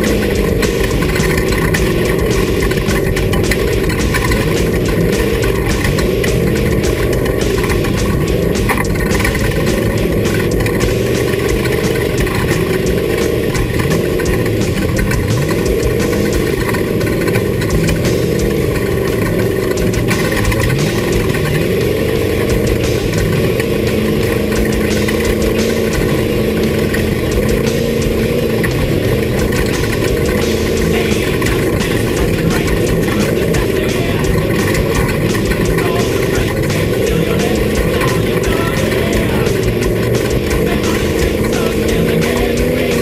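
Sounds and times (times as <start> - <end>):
race vehicle engine revving: 0.0 - 43.0
rattling rush: 0.0 - 43.0.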